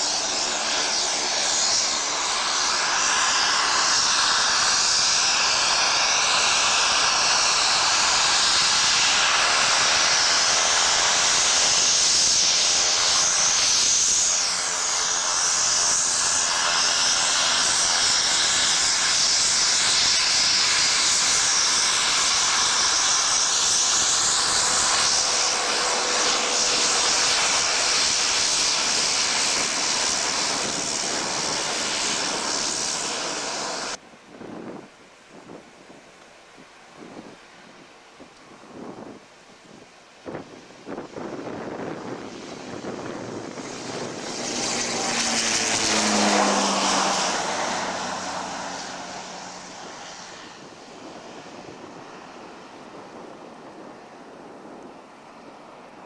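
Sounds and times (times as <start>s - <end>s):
turboprop engines whining: 0.0s - 56.0s.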